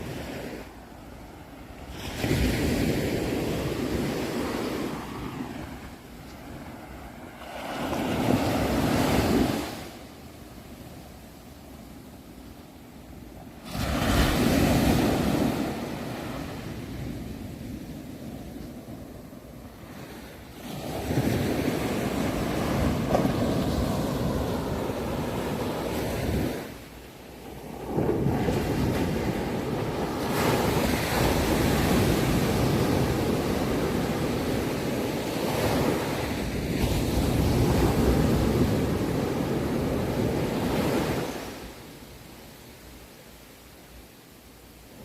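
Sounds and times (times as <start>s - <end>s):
sea waves washing in: 0.0s - 42.5s.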